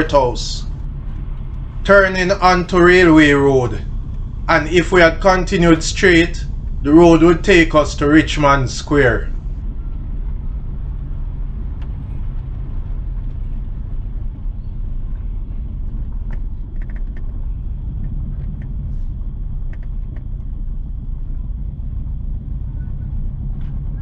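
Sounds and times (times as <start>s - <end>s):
car driving on rough road: 0.0s - 24.0s.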